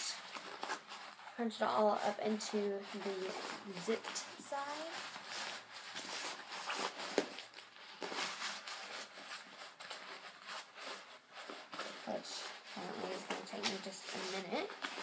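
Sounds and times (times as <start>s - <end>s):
fabric bag rustling: 0.0s - 15.0s.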